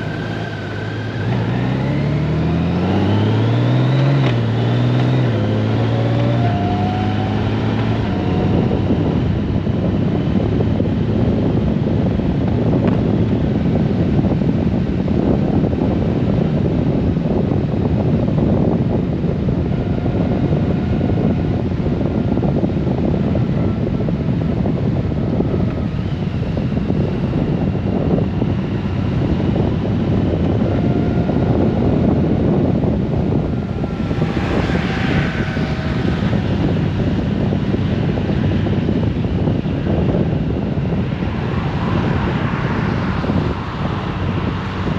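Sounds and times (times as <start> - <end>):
motorcycle engine hum: 0.0 - 44.9
road noise: 0.0 - 44.9
wind rush: 0.0 - 44.9.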